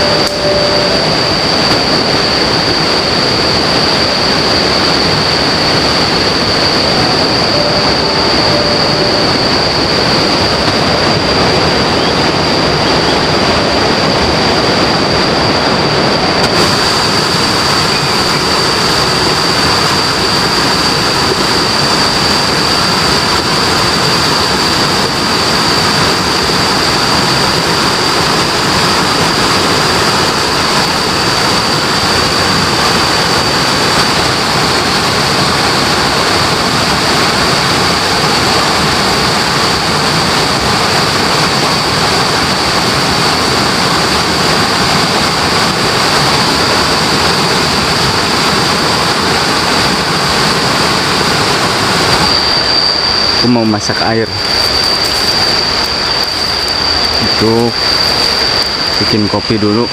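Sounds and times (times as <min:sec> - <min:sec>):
river water rushing: 0:00.0 - 0:59.1
steady high-pitched tone: 0:00.0 - 0:59.9.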